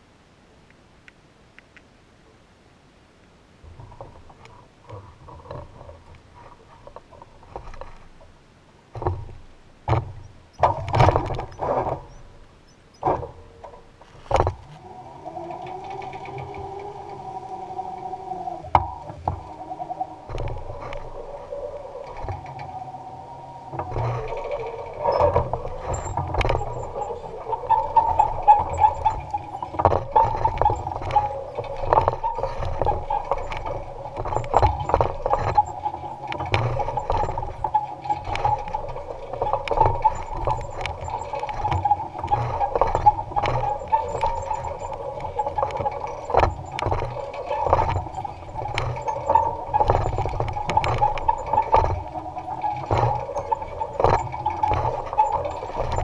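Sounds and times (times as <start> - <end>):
tractor and implement rattling: 3.7 - 56.0
electric tractor humming: 10.6 - 56.0.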